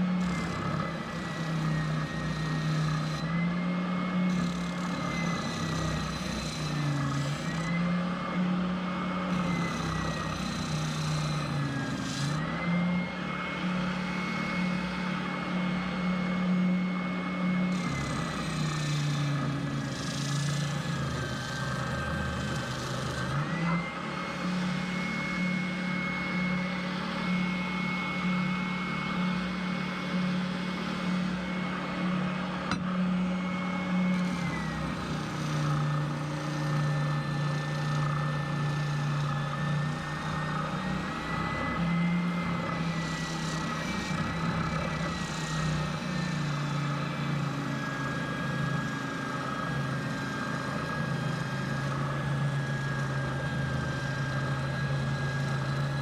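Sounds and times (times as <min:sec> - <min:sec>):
router motor whining: 0:00.0 - 0:56.0.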